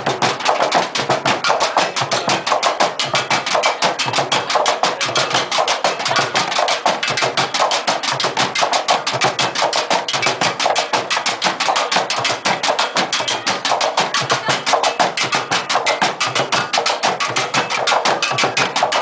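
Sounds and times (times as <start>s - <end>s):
drumming on plastic containers: 0.0s - 19.0s.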